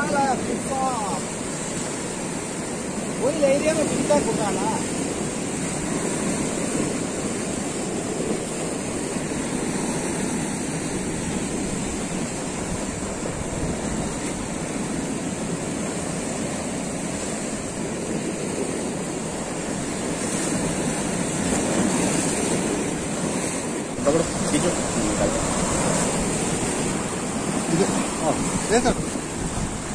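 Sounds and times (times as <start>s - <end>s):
surf washing over rocks: 0.0s - 29.9s.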